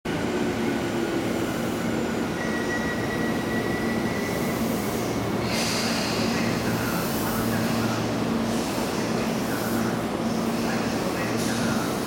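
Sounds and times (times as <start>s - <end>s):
electric train rumbling to a stop: 0.1s - 12.0s.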